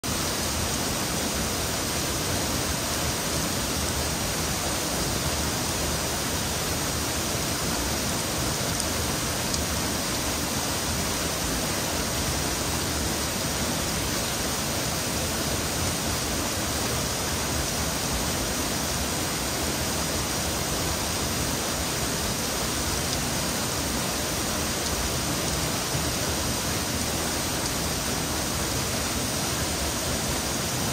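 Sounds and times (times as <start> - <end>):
waterfall rushing and splashing: 0.0 - 30.9.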